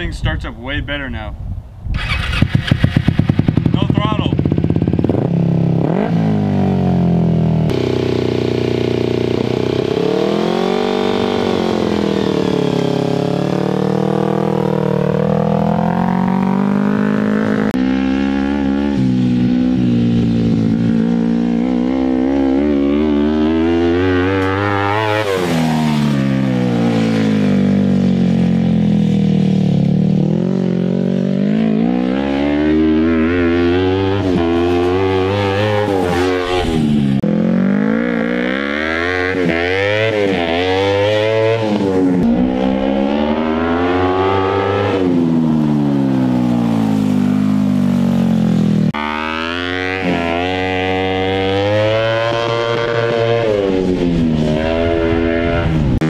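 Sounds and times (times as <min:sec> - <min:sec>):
buggy engine accelerating: 0:01.9 - 0:56.0.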